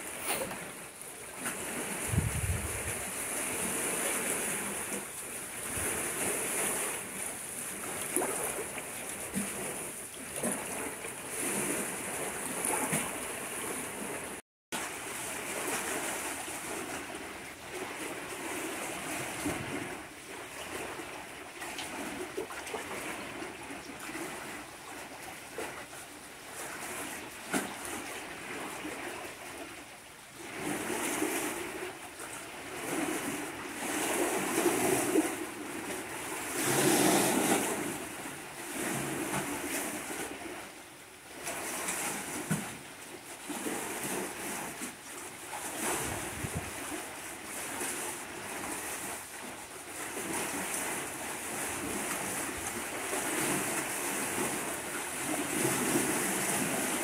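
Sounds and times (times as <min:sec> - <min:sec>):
sea waves lapping around pilings: 0:00.0 - 0:57.0.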